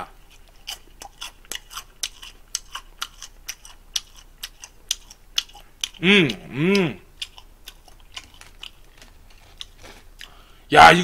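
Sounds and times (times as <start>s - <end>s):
crisp crunchy chewing: 0.2s - 10.4s.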